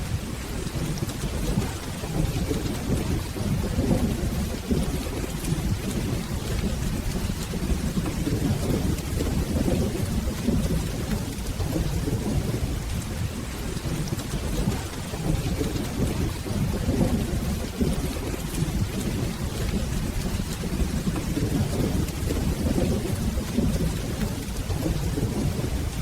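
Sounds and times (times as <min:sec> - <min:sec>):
rolling thunder rumble: 0:00.0 - 0:26.0
steady rainfall: 0:00.0 - 0:26.0.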